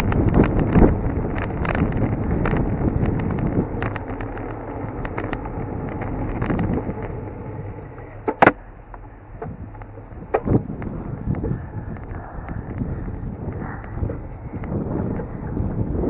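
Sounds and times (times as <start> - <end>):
tyre rumble on asphalt: 0.0 - 16.0
wind buffeting microphone: 0.0 - 16.0.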